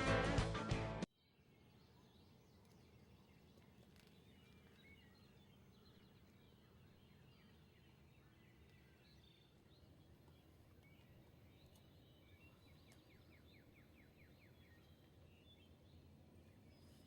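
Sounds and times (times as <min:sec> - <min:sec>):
small birds chirping: 0:01.2 - 0:17.0.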